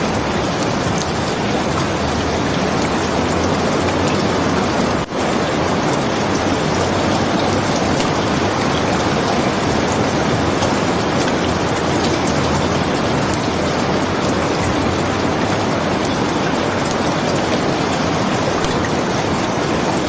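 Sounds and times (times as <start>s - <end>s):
dense rainfall hiss: 0.0s - 20.0s.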